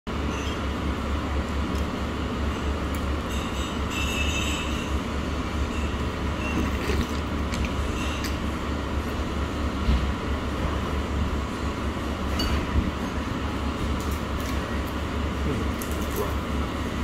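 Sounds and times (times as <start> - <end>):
restaurant room noise: 0.1 - 17.0.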